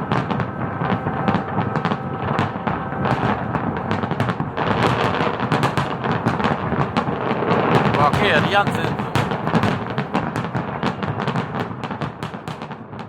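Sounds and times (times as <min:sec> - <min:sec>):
fireworks cracking and popping: 0:00.0 - 0:13.0
low fireworks rumble: 0:00.0 - 0:13.0.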